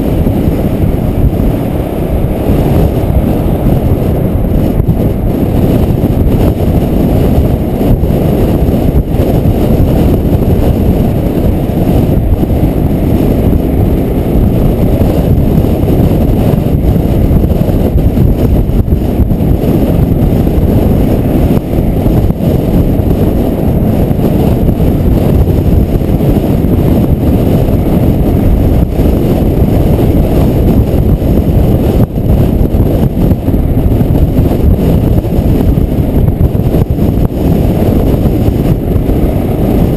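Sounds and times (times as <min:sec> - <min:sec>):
motorcycle engine and road rumble: 0:00.0 - 0:39.9
wind buffeting microphone: 0:00.0 - 0:39.9.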